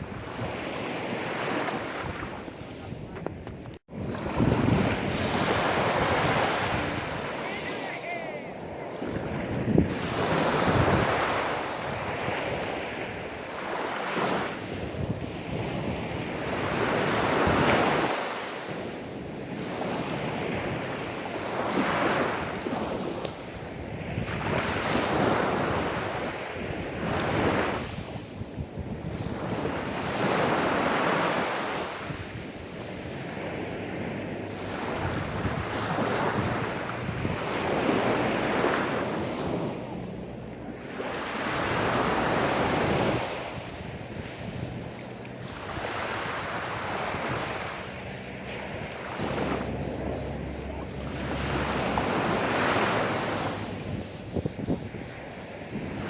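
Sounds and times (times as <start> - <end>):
sea waves washing onto sand: 3.9 - 56.0.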